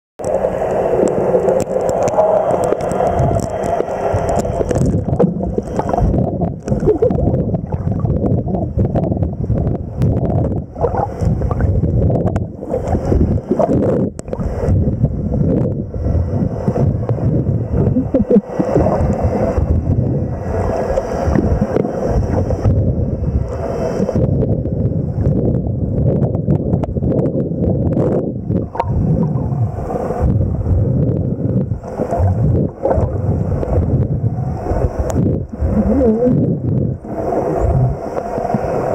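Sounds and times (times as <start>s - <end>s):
underwater water rushing: 0.2s - 38.9s.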